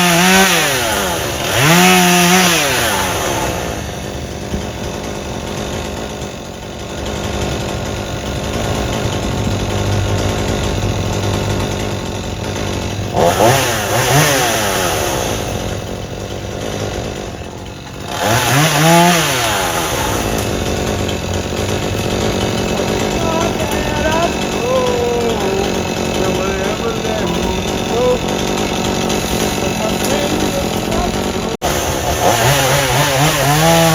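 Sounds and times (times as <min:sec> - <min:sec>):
chainsaw running and revving: 0:00.0 - 0:33.9.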